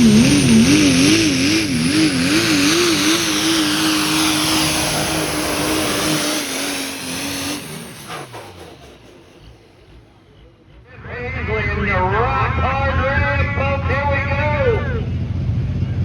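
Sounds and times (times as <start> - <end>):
diesel truck engine at full throttle: 0.0 - 16.0.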